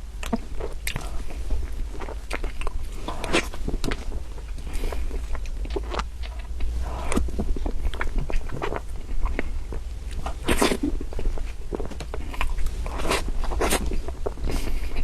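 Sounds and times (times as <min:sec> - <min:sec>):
chewing soft cake: 0:00.0 - 0:15.0.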